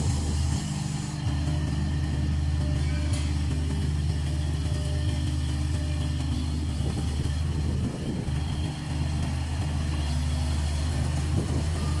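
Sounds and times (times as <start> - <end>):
loader engine running: 0.0 - 12.0.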